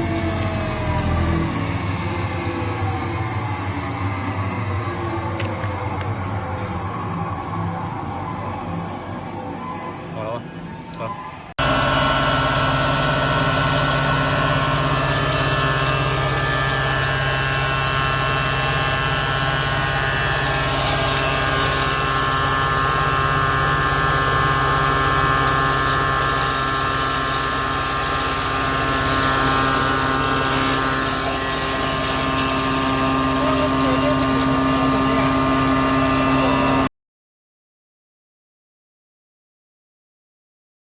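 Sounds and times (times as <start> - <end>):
grain grinder humming and whining: 0.0 - 36.9.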